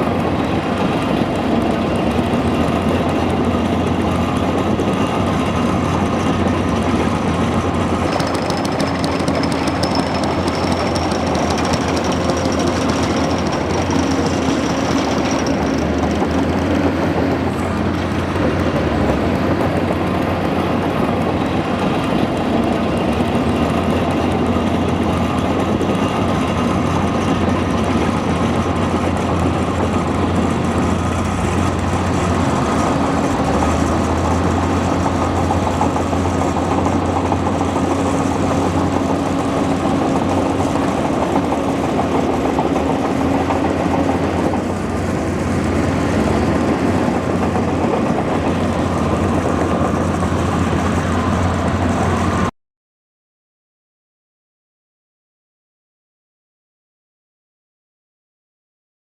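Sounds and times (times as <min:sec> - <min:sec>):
bulldozer diesel engine running: 0:00.0 - 0:52.5.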